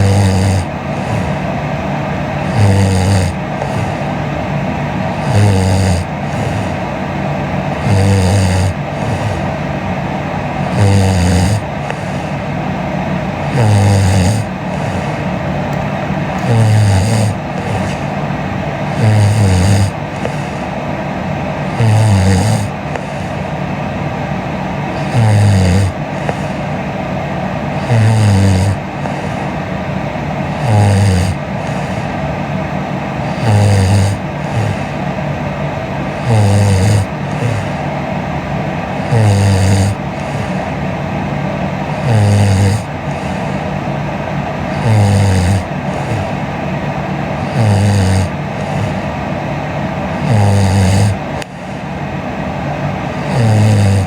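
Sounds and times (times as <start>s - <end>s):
woman snoring: 0.0s - 54.0s.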